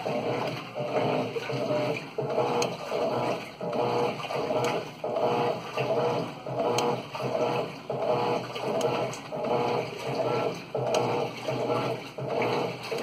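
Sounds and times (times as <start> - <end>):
washing machine whirring: 0.0 - 13.0.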